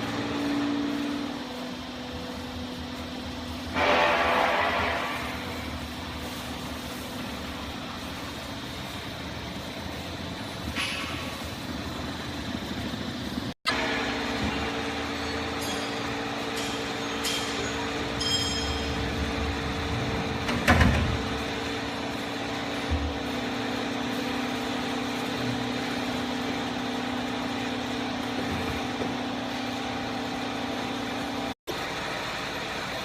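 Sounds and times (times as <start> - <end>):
baling press humming: 0.0 - 32.7.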